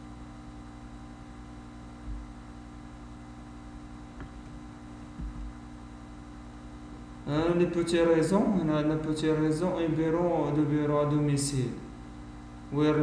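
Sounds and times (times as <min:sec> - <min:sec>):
electrical mains hum: 0:00.0 - 0:13.0
microphone hiss: 0:00.0 - 0:13.0.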